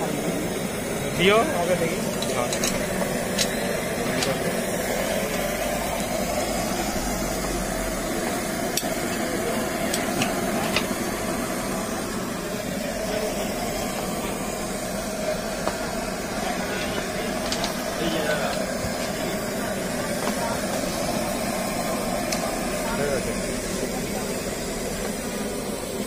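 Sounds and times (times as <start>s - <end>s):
street food stall background noise: 0.0s - 26.0s.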